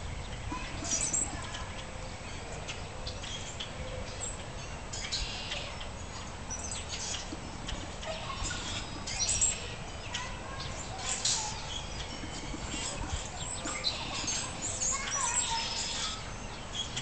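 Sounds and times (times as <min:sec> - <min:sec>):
songbirds chirping and calling: 0:00.0 - 0:17.0.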